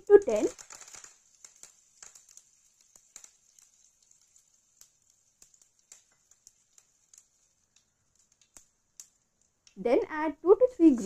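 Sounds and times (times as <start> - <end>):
seeds spluttering in hot oil: 0.0 - 11.0.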